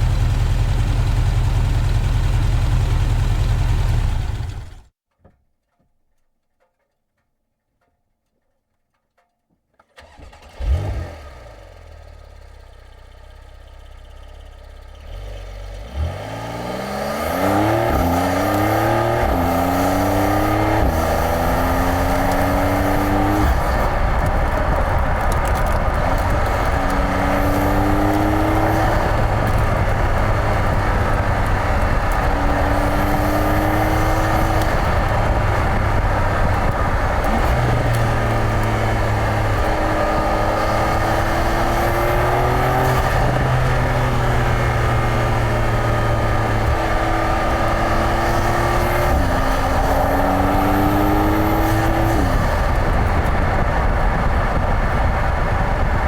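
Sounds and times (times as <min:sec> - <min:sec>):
car engine starting and revving: 0:00.0 - 0:04.9, 0:09.9 - 0:56.0.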